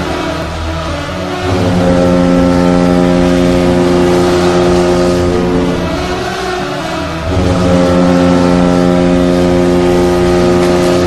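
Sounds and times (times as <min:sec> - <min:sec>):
music: 0:00.0 - 0:11.0
goal horn blowing low chord: 0:01.3 - 0:11.0.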